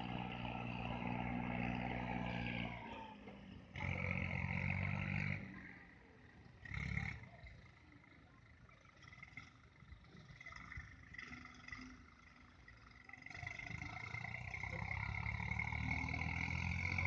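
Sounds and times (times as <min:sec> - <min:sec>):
tractor engines revving: 0:00.0 - 0:17.0.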